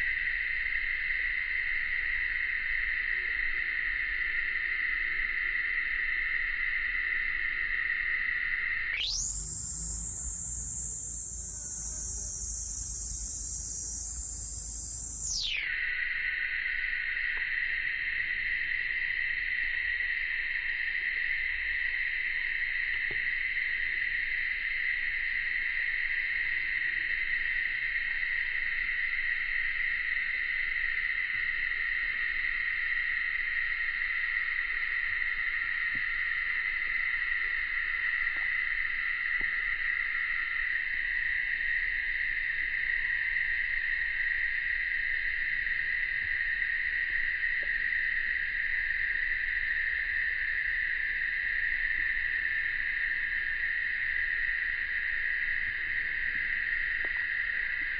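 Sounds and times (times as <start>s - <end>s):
insect chorus drone: 0.0s - 57.9s.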